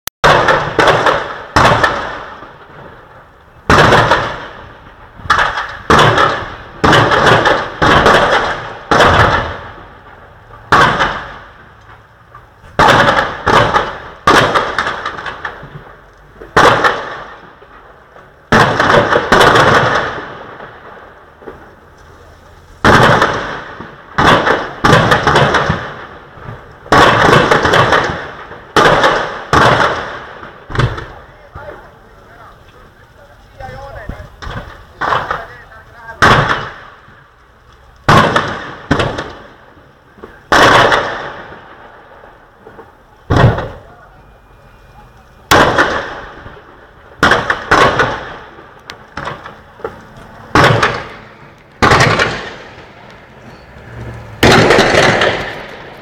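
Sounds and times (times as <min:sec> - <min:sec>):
fireworks bangs: 0:00.2 - 0:56.0.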